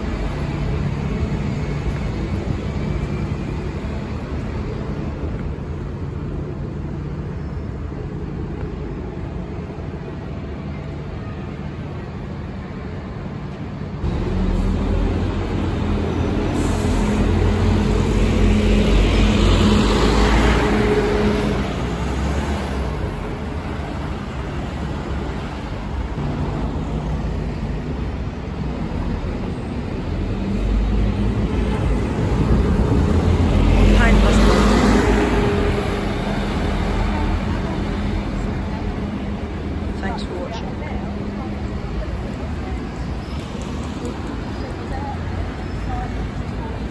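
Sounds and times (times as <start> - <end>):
bus approaching: 0.0 - 46.9
bus engine driving past: 0.0 - 46.9.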